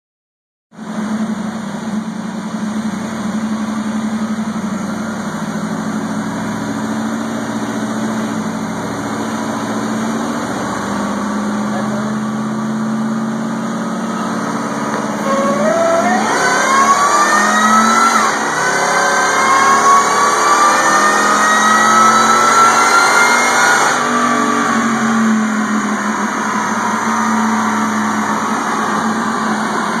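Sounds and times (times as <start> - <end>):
engine running on dyno: 0.8 - 30.0
whine climbing in pitch: 2.6 - 30.0.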